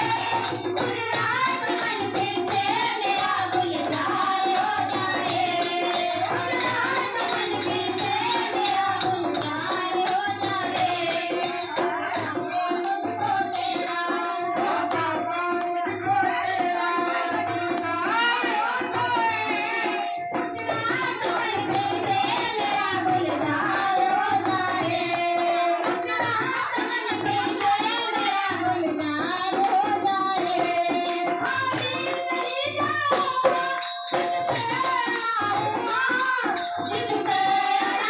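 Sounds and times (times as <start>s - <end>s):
hand drum beat: 0.0s - 38.0s
person singing through microphone: 0.0s - 38.0s.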